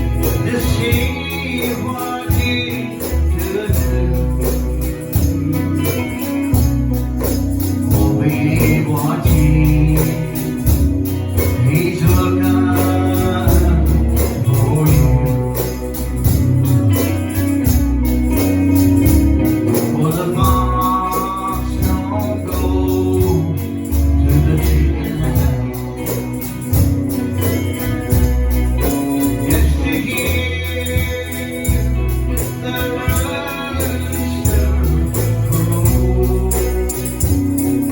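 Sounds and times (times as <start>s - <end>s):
bass line: 0.0s - 37.9s
person singing: 0.0s - 37.9s
tambourine shaken: 0.0s - 37.9s.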